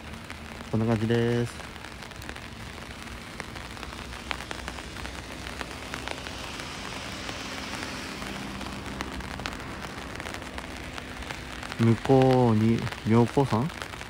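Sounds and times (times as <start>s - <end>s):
light rain pattering: 0.0s - 14.0s.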